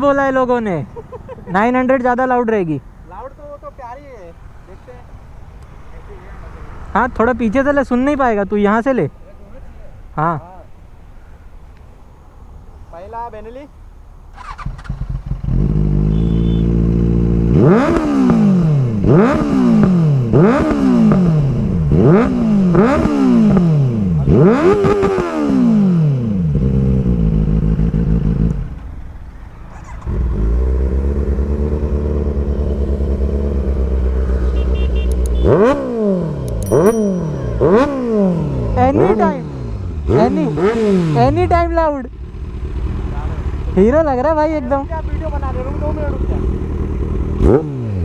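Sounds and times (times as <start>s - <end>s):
motorcycle engine revving: 1.4s - 9.6s, 14.3s - 48.0s.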